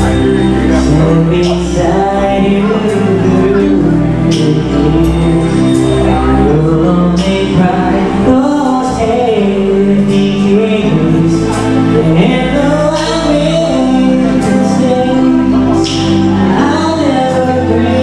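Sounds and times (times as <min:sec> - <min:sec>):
karaoke backing track: 0:00.0 - 0:18.0
person singing: 0:00.0 - 0:18.0.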